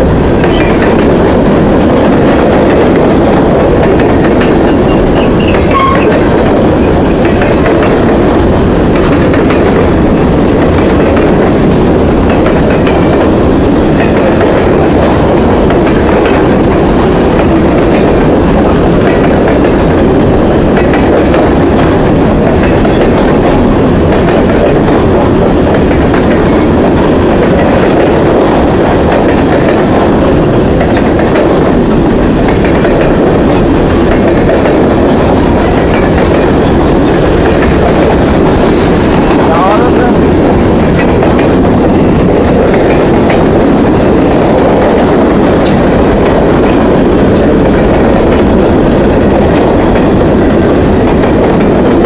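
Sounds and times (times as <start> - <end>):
freight train wheels on rails: 0.0 - 52.0.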